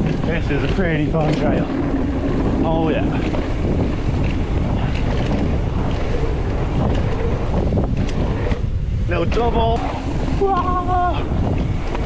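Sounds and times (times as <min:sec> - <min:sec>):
sharp rattles: 0:00.0 - 0:10.8
bike tyres rumbling on dirt: 0:00.0 - 0:12.0
wind buffeting microphone: 0:00.0 - 0:12.0.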